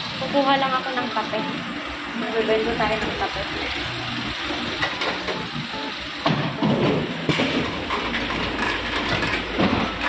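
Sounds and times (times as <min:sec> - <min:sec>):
vending machine low hum: 0:00.0 - 0:10.0.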